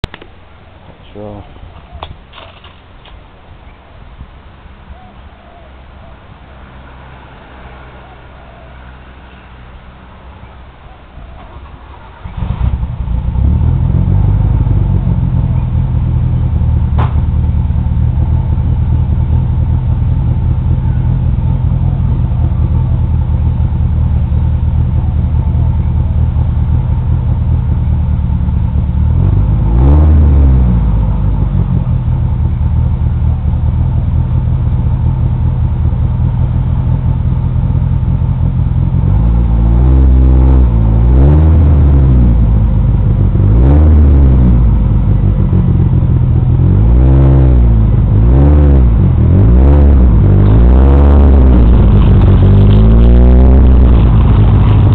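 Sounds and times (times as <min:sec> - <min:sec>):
car engine starting and idling: 0:00.0 - 0:54.9.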